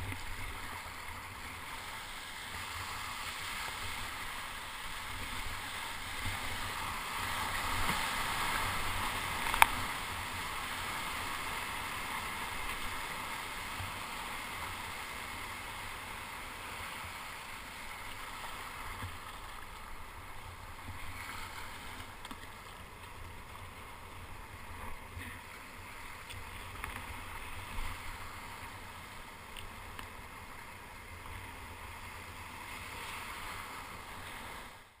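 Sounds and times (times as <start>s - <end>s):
surf foam hissing and rushing: 0.0s - 35.0s.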